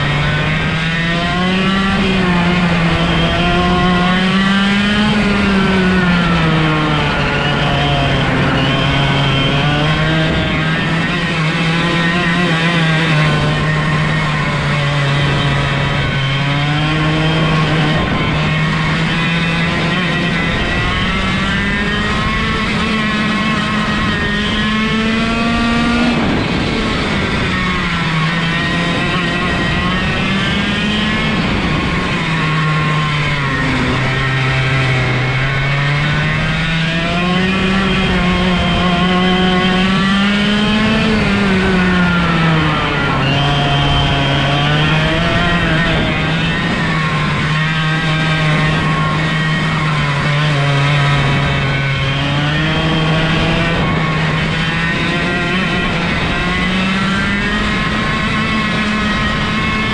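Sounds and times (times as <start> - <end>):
two-stroke kart engine revving: 0.0 - 59.9.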